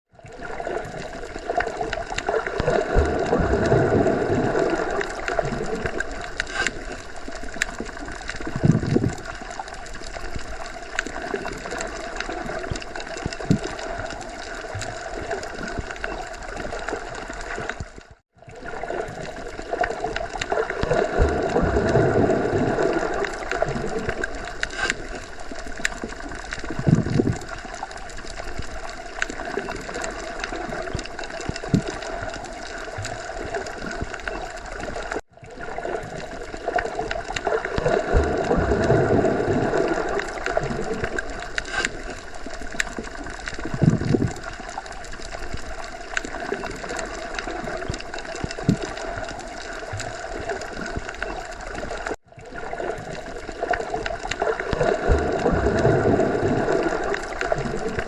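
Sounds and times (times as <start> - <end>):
underwater watery noise: 0.1 - 58.0.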